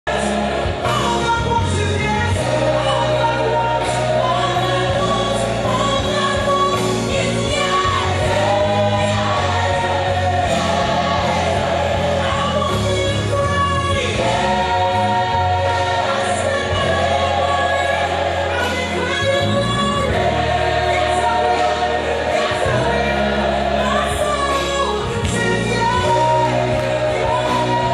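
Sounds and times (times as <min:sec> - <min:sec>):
choir singing gospel: 0:00.1 - 0:27.9
sustained bass notes: 0:00.1 - 0:27.9.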